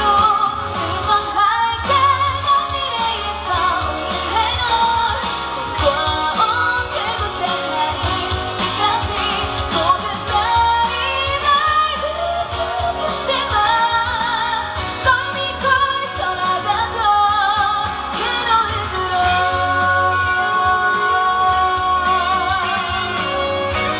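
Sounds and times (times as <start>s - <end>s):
band backing track: 0.0s - 23.9s
woman singing pop song: 0.0s - 23.9s.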